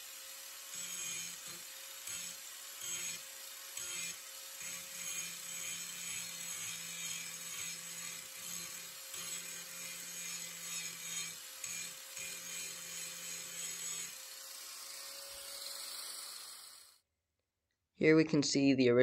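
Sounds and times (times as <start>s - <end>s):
angle grinder on metal: 0.0s - 17.0s.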